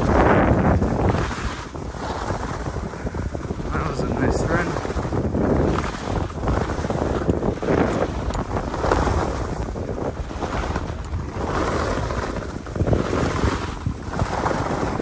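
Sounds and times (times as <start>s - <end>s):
skis scraping across snow: 0.0s - 15.0s
wind buffeting microphone: 0.0s - 15.0s.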